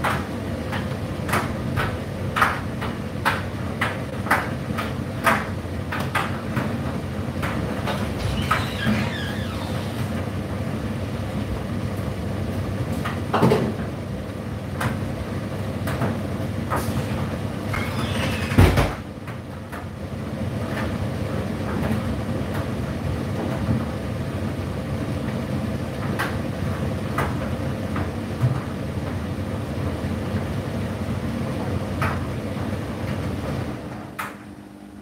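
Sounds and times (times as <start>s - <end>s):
tumble dryer motor hum: 0.0s - 35.0s.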